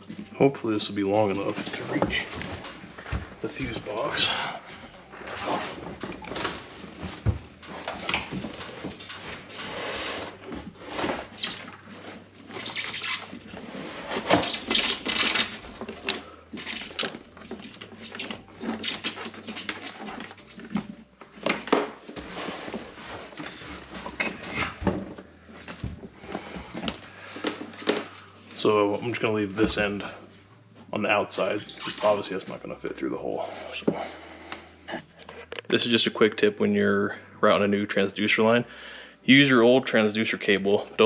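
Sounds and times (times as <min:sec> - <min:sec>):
cable rustling and scraping: 0:00.0 - 0:36.1.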